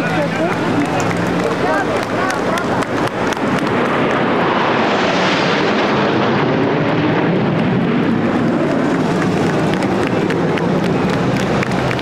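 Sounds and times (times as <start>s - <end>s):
military aircraft flying over: 0.0s - 12.0s.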